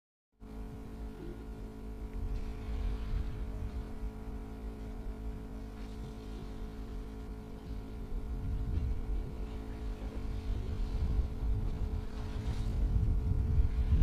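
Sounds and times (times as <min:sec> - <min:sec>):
motor running with low rumble: 0:00.4 - 0:14.0.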